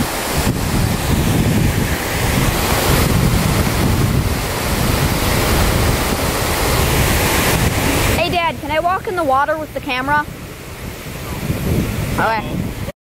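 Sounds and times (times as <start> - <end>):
river water pouring over weir: 0.0 - 12.9
wind buffeting microphone: 0.0 - 12.9.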